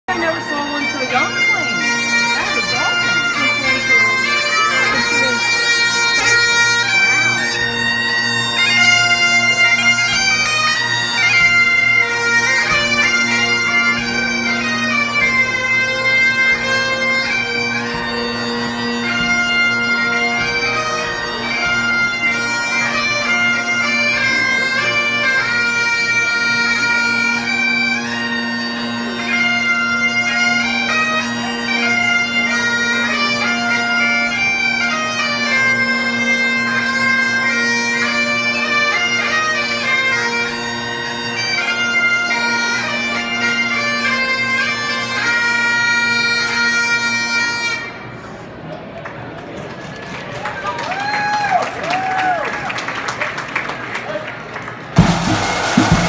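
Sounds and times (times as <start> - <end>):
bagpipes playing a tune: 0.0 - 48.6.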